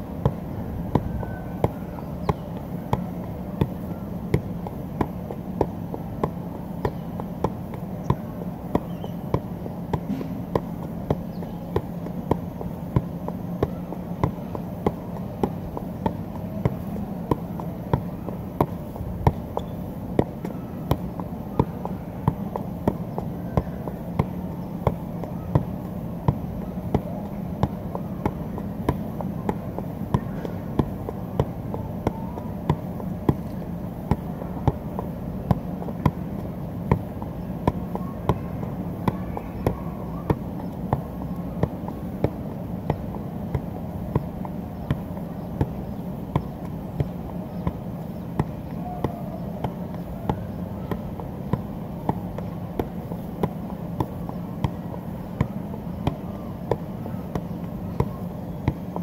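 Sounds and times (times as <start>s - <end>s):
steady background hum: 0.0s - 59.0s
soccer ball kicked thuds: 0.2s - 59.0s.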